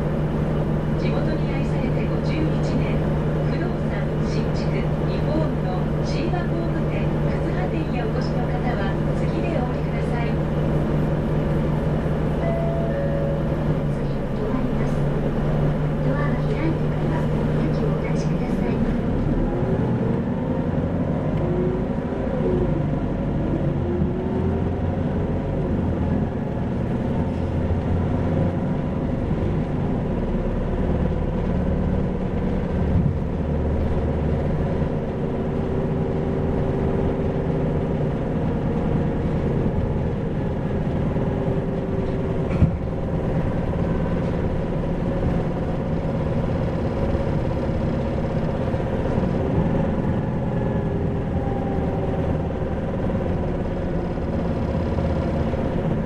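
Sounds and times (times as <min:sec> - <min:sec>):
bus engine humming: 0:00.0 - 0:56.0.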